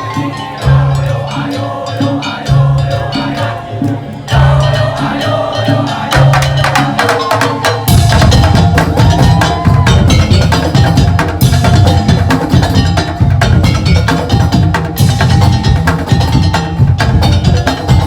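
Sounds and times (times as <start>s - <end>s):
percussion ensemble playing: 0.0s - 18.0s
heavy bass drumming: 0.6s - 18.0s.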